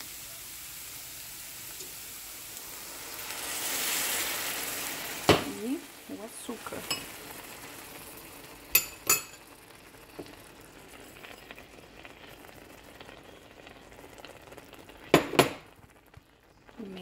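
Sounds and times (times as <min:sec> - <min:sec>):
pan bubbling hiss: 0:00.0 - 0:17.0.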